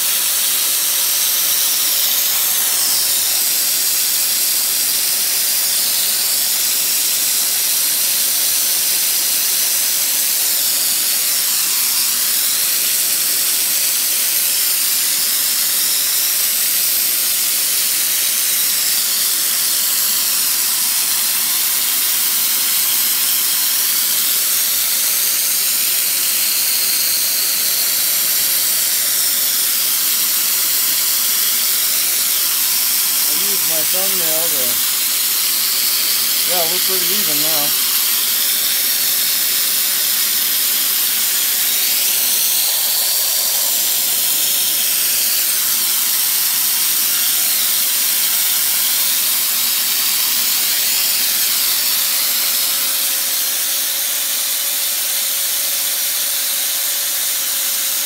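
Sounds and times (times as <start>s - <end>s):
coolant spray hissing: 0.0s - 56.3s
belt grinder grinding knife blade: 0.0s - 58.0s.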